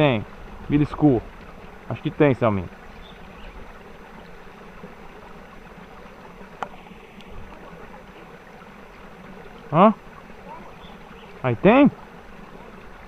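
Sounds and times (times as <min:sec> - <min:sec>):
water trickling into pond: 0:00.0 - 0:13.0.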